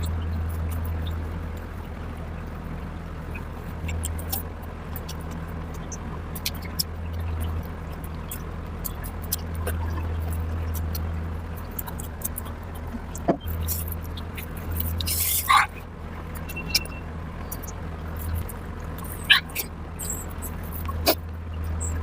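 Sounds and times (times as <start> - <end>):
low hum: 0.0 - 22.0
wet chewing and lip smacks: 3.2 - 22.0.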